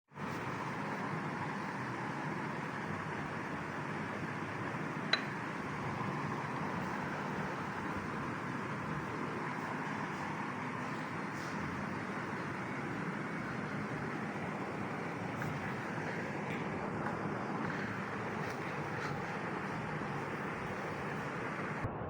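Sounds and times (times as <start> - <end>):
steady background noise: 0.1 - 22.0.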